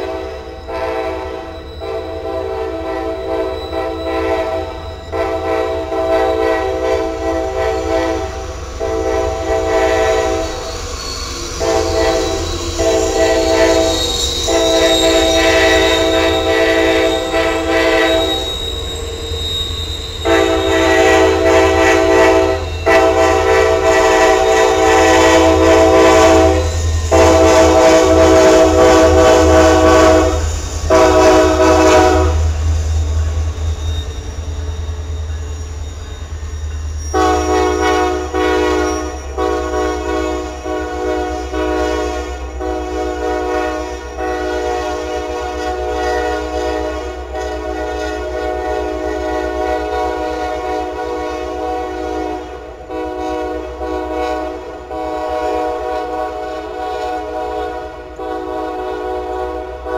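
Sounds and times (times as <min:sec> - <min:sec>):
locomotive air horn blasts: 0:00.0 - 0:10.6, 0:11.6 - 0:18.6, 0:20.2 - 0:32.5, 0:37.1 - 0:59.9.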